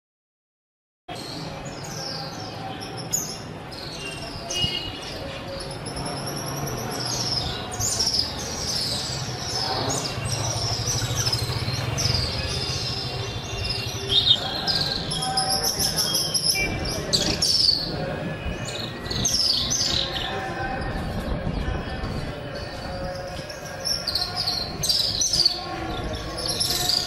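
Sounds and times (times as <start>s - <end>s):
many birds chirping: 1.1s - 27.0s.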